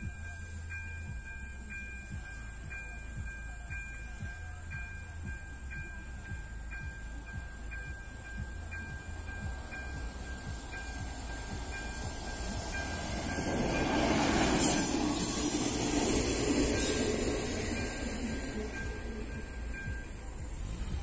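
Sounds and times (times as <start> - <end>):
diesel railcar engine: 0.0 - 21.0
train wheels rolling: 0.0 - 21.0.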